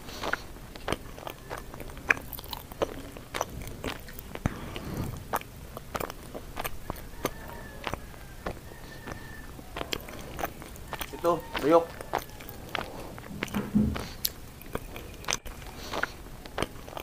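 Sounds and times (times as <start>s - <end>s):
chewing leaves: 0.0s - 17.0s
wet clicks and lip smacks: 0.0s - 17.0s.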